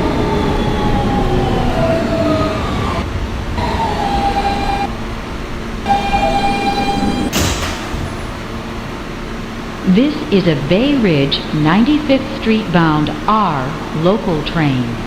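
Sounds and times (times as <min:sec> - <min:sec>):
subway car electrical whine: 0:00.0 - 0:15.0
subway car rumble: 0:00.0 - 0:15.0.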